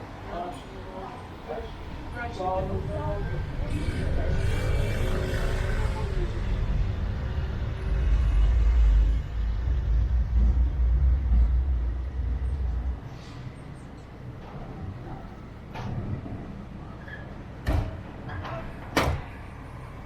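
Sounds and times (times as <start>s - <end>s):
tram rumbling on tracks: 0.0s - 20.0s.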